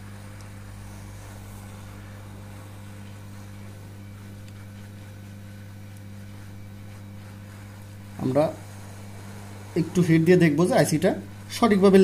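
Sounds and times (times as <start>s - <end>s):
hot air station blowing: 0.0s - 12.0s
low steady hum: 0.0s - 12.0s.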